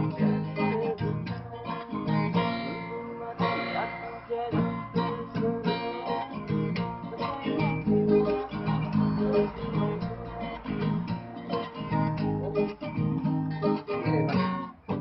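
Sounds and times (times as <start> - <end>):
acoustic guitar strummed and picked: 0.0 - 15.0.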